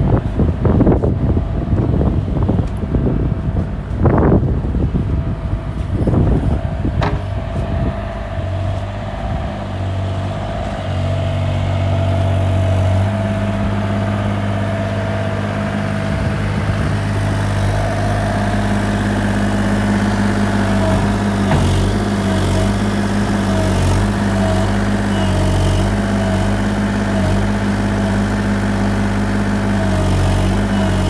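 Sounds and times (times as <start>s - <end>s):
excavator engine running: 0.0s - 31.0s.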